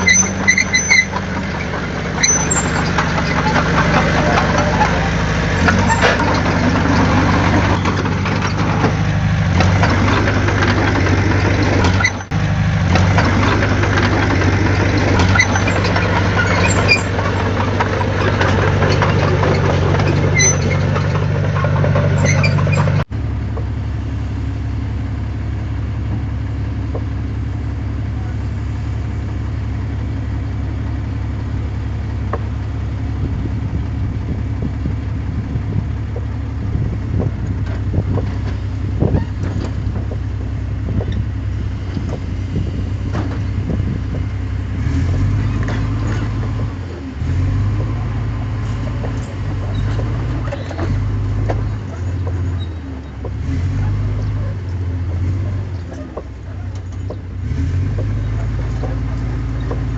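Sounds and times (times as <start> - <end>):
knocks and clanks: 0.0 - 23.7, 34.3 - 44.3, 45.0 - 59.9
heavy diesel engine running: 0.0 - 59.9.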